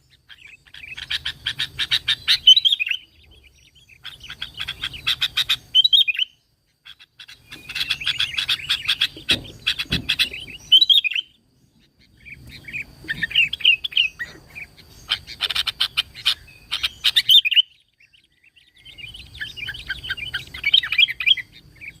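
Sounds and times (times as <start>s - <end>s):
bulbul singing: 0.0s - 22.0s.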